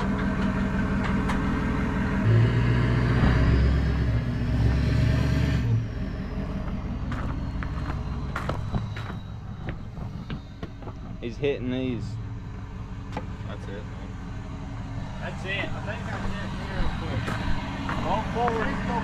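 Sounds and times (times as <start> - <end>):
truck engine revving with whine: 0.0 - 19.0.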